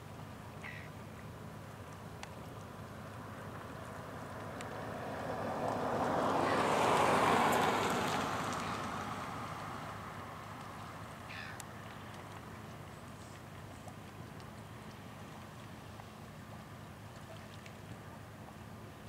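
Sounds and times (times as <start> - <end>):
boat diesel engines: 0.0 - 19.0
rush of boat wash: 2.6 - 19.0.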